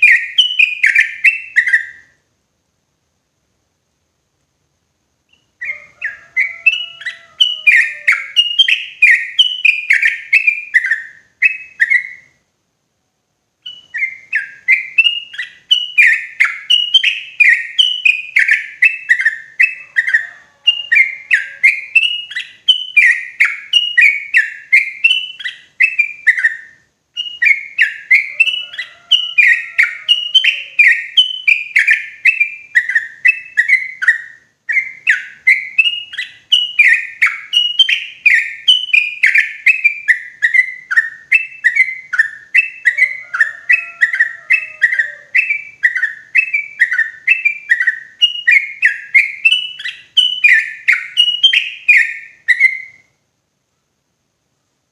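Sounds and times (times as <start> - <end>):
bulbul singing: 0.0 - 2.2, 5.3 - 12.4, 13.6 - 53.2.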